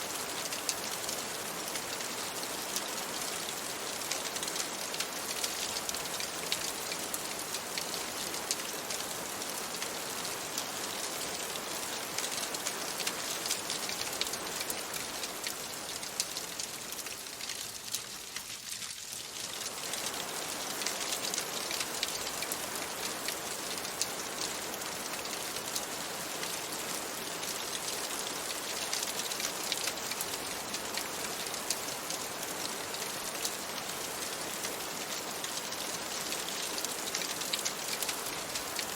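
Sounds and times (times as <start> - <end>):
rain on a window: 0.0 - 38.9.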